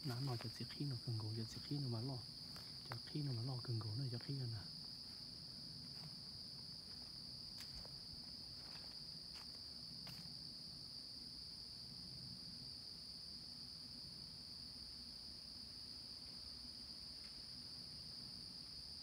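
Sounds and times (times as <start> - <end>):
insect chorus trilling: 0.0 - 19.0.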